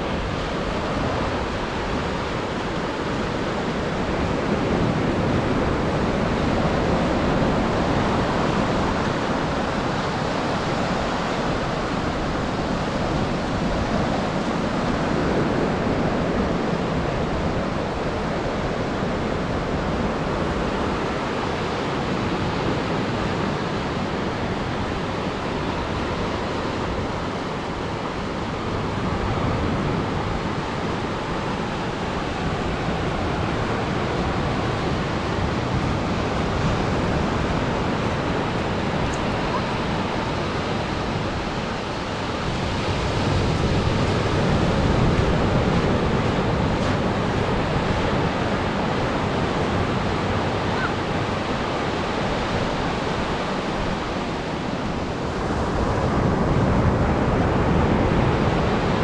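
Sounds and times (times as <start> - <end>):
surf breaking ashore: 0.0 - 59.0.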